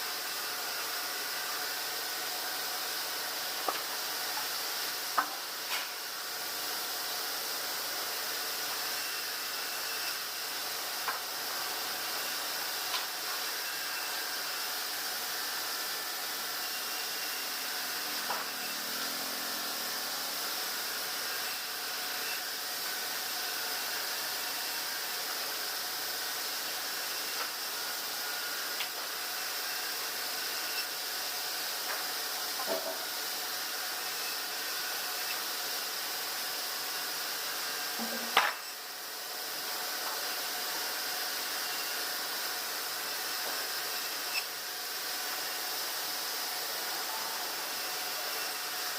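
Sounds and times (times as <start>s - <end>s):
bandsaw machinery hissing: 0.0s - 48.9s.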